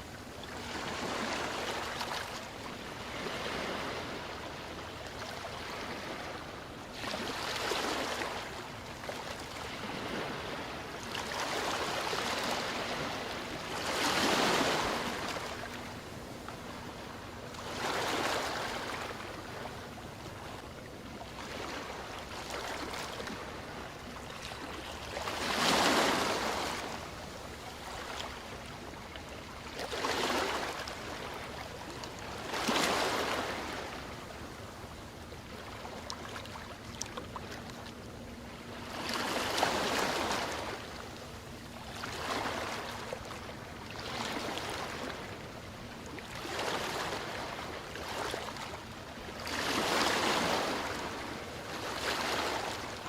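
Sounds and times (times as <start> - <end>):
ocean waves breaking on shore: 0.0 - 53.0.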